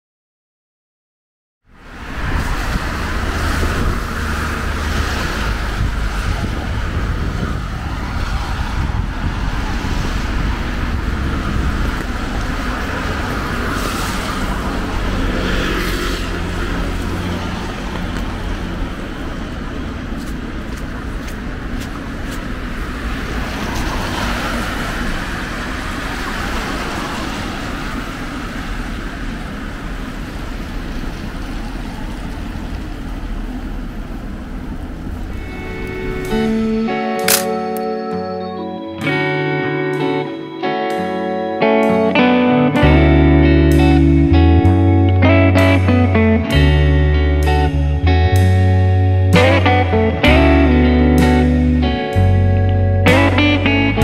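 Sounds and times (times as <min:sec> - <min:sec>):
cars passing: 0:01.7 - 0:54.0
traffic rumble and tyre hiss: 0:01.7 - 0:54.0.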